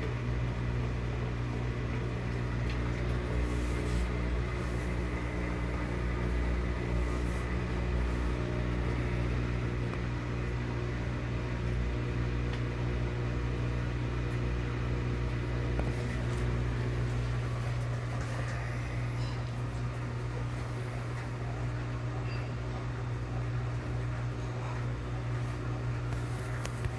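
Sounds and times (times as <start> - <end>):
washing machine motor hum: 0.0 - 26.9.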